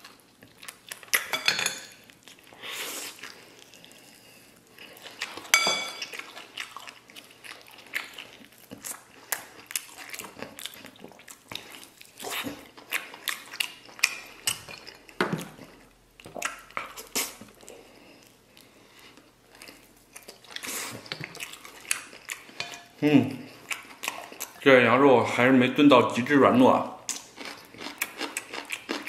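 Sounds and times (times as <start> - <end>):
chewing and sucking on bones: 0.0 - 1.3, 1.9 - 24.6, 27.0 - 29.0.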